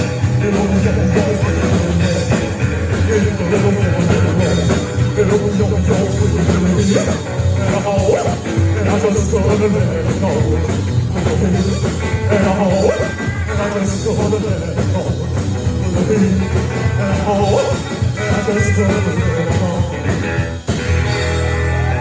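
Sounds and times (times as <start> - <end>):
rock and roll band playing live: 0.0 - 22.0.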